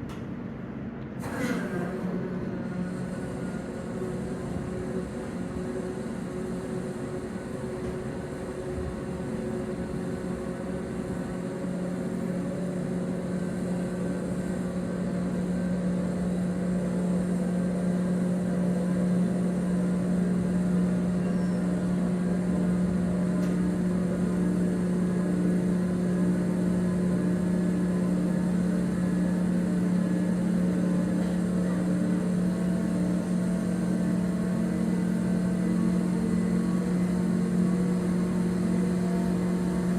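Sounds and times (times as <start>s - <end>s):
boat engine droning: 1.2s - 39.9s.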